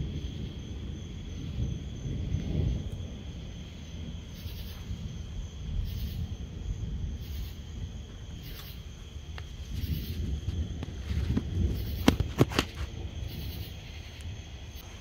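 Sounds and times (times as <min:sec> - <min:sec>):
cricket trill: 0:00.0 - 0:15.0
distant thunder rumble: 0:00.0 - 0:15.0
insect chirps: 0:00.0 - 0:15.0.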